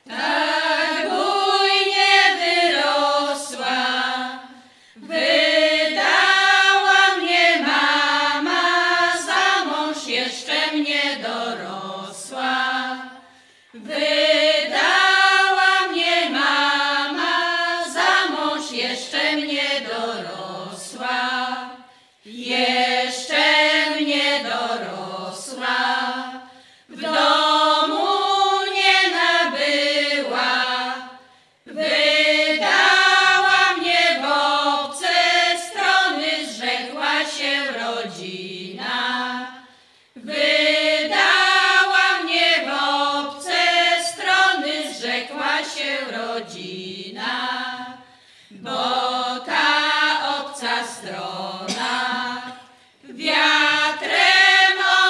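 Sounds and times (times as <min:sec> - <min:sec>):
women singing unaccompanied: 0:00.0 - 0:55.0.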